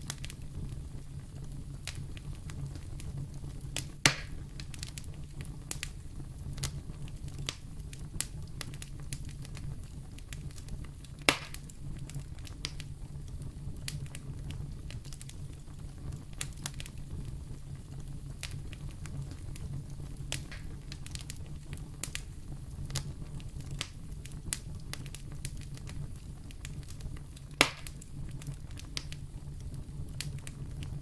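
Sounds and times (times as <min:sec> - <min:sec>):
loud pops of fire: 0:00.0 - 0:31.0
wood fire crackling: 0:00.0 - 0:31.0.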